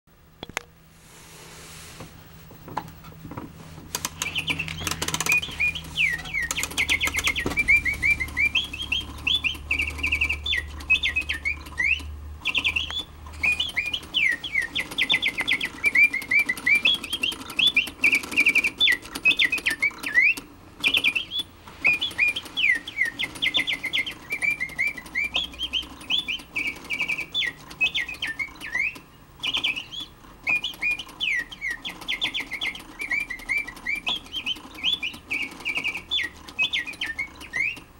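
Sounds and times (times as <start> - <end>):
light mechanical clicking: 3.8 - 37.9
mechanical bird whistle trilling: 4.1 - 37.9.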